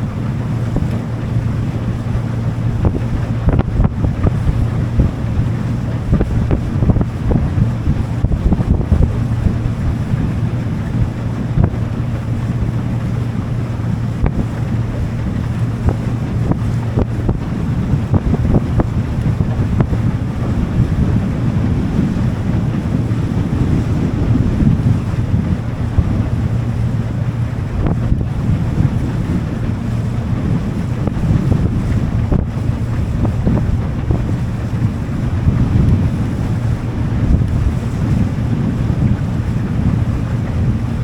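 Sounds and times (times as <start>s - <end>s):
boat engine droning: 0.0s - 41.0s
wind buffeting microphone: 0.0s - 41.0s.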